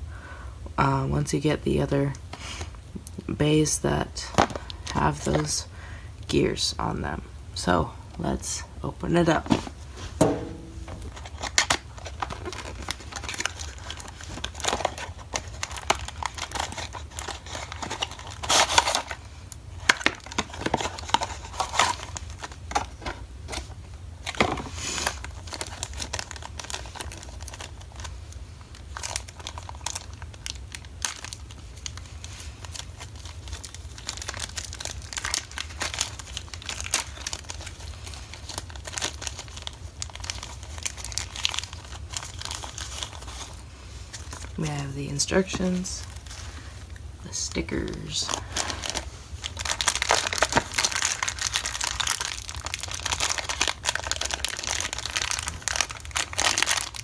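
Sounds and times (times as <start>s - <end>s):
plastic bag crinkling: 10.4s - 57.0s.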